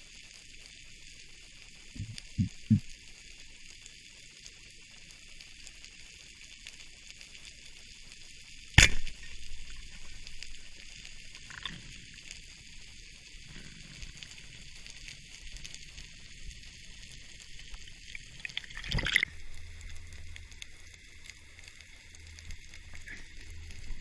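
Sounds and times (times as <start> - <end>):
underwater crackle and hiss: 0.0 - 24.0.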